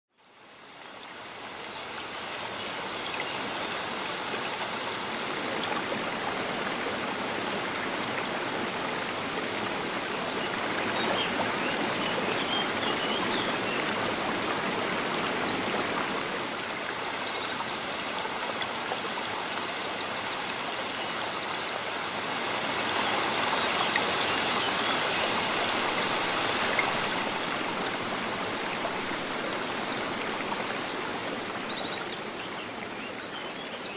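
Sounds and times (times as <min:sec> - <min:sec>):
river water rushing: 0:00.2 - 0:33.9.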